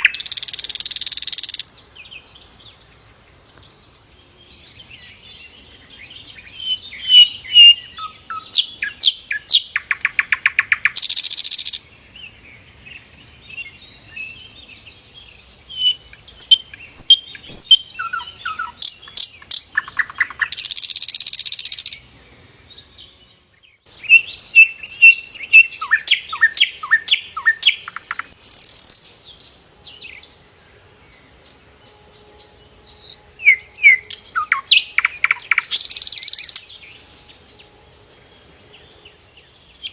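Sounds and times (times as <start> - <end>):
flycatcher singing: 0.0 - 2.9, 3.8 - 11.9, 13.6 - 22.1, 22.8 - 30.4, 31.1 - 39.9.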